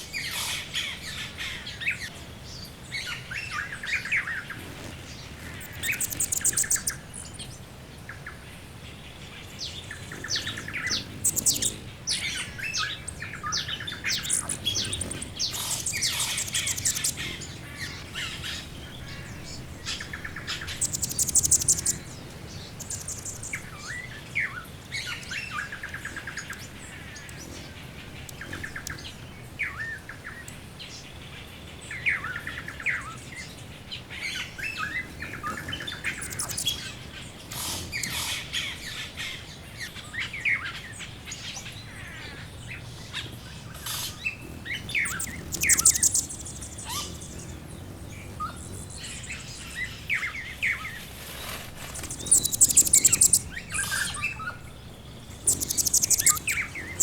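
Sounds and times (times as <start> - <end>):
birds chirping and trilling: 0.1 - 57.0.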